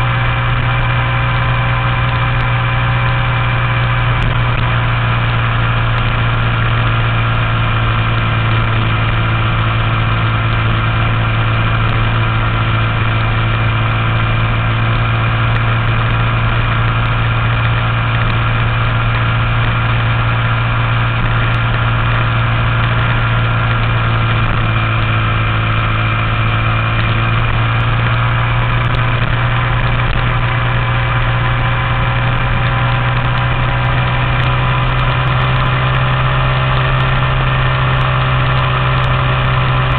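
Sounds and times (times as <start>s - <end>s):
minibike engine cruising: 0.0s - 39.9s.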